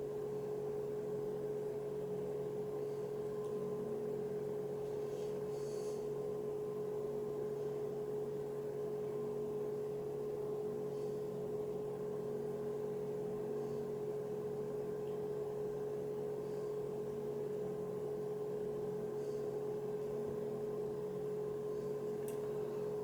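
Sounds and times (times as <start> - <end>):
steady tonal hum: 0.0 - 23.0.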